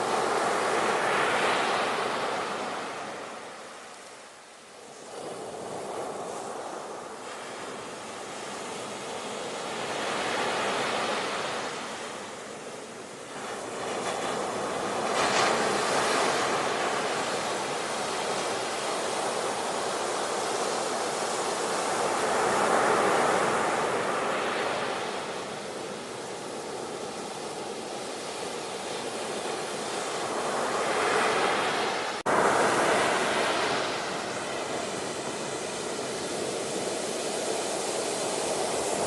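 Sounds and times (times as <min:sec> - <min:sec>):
ocean surf waves: 0:00.0 - 0:39.0.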